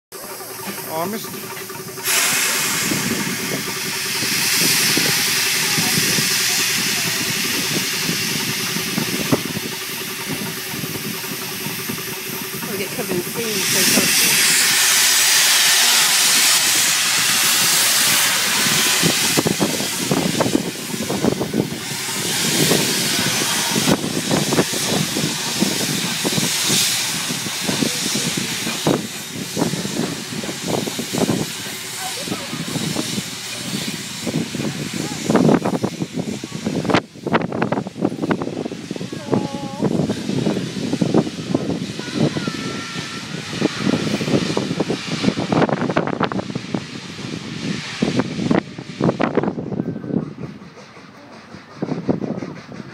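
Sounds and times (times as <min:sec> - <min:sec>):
train wheels clanking on track: 0:00.1 - 0:52.9
steam venting hiss: 0:00.2 - 0:52.9.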